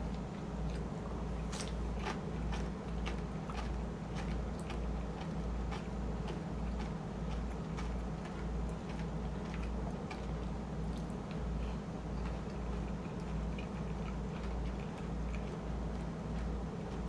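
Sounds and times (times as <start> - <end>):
person chewing food: 0.1 - 17.0.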